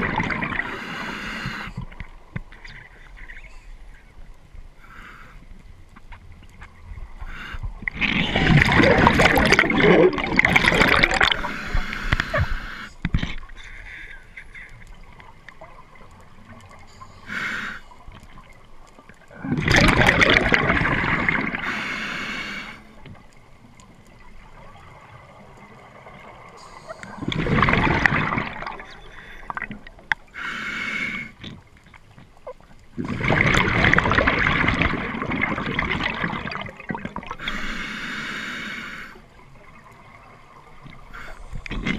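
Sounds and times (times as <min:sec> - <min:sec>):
exhaled bubbles gurgling underwater: 0:00.0 - 0:03.5, 0:06.4 - 0:13.6, 0:14.5 - 0:30.4, 0:31.4 - 0:41.9
quiet hisses: 0:00.1 - 0:08.8, 0:10.3 - 0:19.6, 0:20.8 - 0:33.0, 0:36.1 - 0:41.9.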